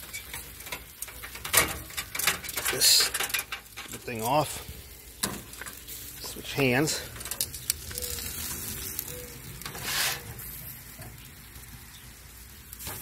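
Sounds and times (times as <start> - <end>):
sausages sizzling on a grill: 0.0 - 13.0.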